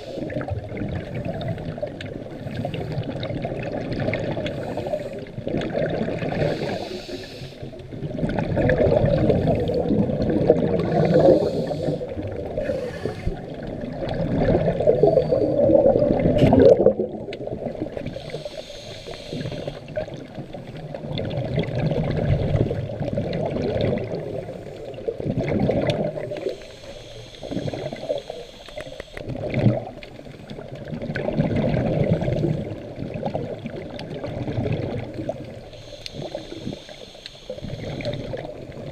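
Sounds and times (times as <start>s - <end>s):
muffled water sloshing and bubbling: 0.0s - 38.9s.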